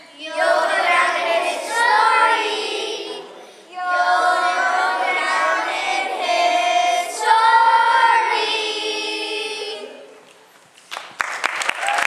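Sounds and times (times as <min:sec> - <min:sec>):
children singing: 0:00.0 - 0:10.2.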